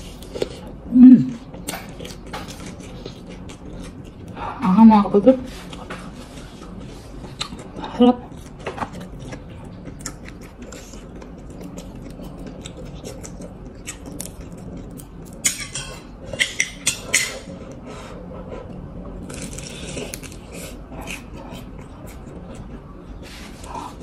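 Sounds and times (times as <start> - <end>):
crunchy food chewing: 1.4 - 4.5, 5.5 - 17.8, 19.1 - 24.0.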